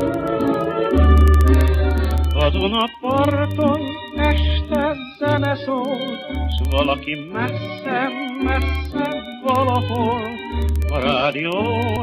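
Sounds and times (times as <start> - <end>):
operetta singing with vibrato: 0.0 - 12.0.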